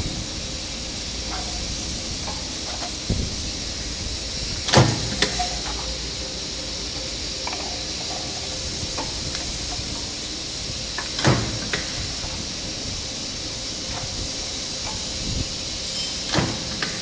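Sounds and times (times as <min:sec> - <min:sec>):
workshop hiss: 0:00.0 - 0:17.0.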